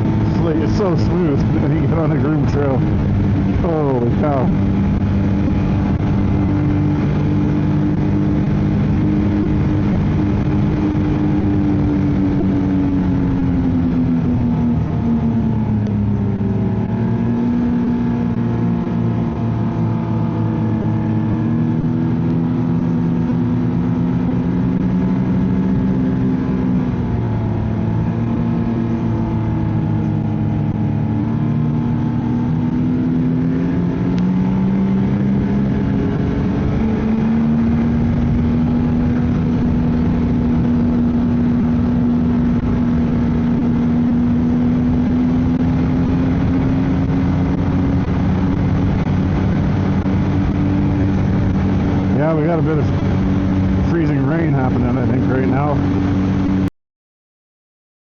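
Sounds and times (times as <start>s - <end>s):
snowmobile engine running: 0.0s - 56.7s.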